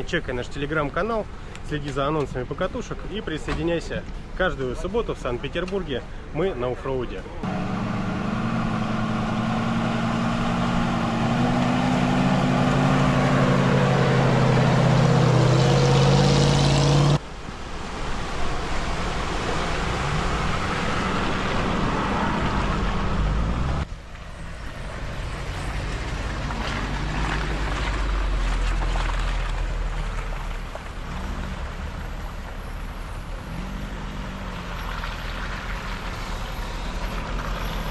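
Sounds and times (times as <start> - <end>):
off-road vehicle engine under load: 0.0 - 17.3, 19.3 - 37.9.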